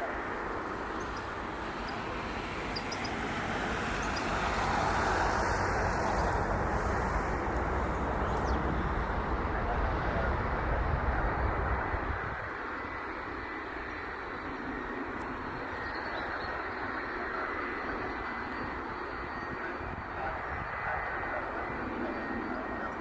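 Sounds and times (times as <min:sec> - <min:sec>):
jet engine rushing: 0:00.0 - 0:23.0.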